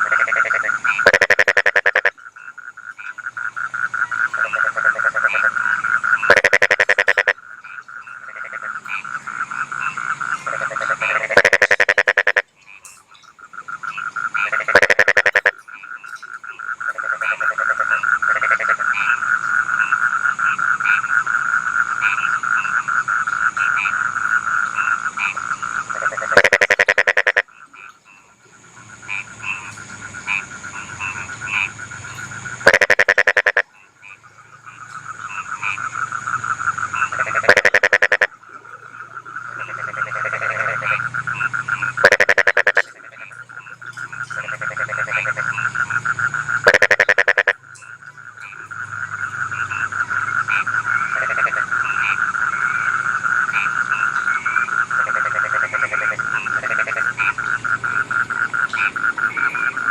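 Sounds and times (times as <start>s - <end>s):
short loud frog calls: 0.0s - 28.3s, 29.0s - 59.9s
frogs calling in a chorus: 0.0s - 59.9s.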